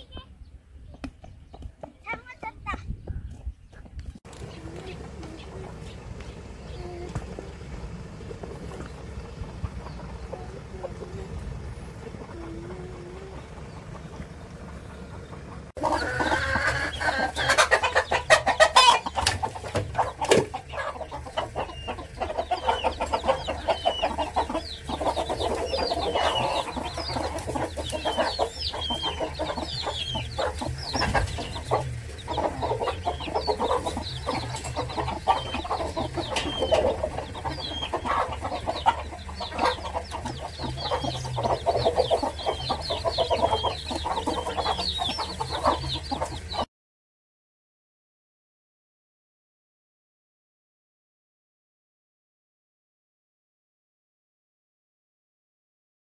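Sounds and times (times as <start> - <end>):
chicks peeping: 0.0 - 46.7
hen clucking: 0.0 - 46.7.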